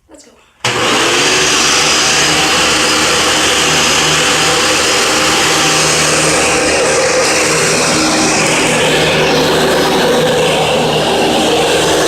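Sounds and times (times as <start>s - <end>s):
vacuum cleaner running: 0.6s - 12.0s.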